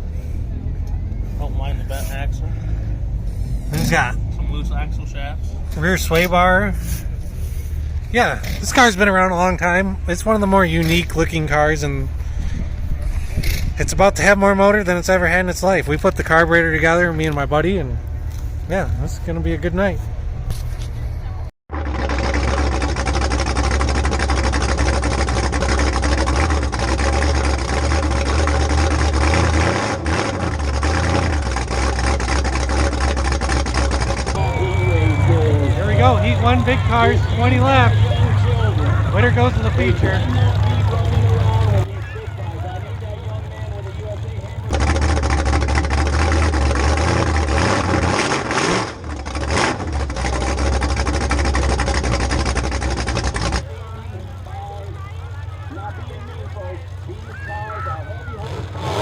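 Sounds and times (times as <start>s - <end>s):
race car engine running: 0.0s - 59.0s.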